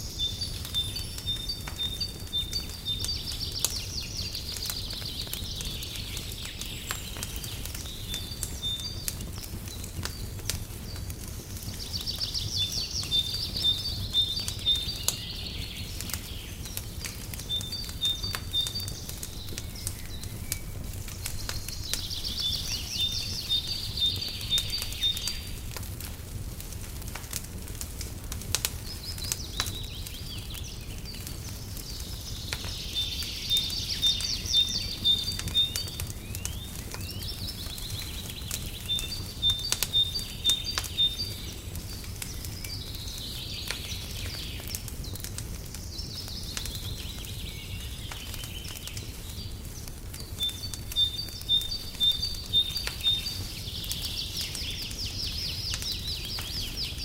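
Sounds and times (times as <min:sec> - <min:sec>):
songbird singing: 0:00.0 - 0:25.8, 0:28.6 - 0:57.0
fireplace crackling: 0:00.0 - 0:57.0.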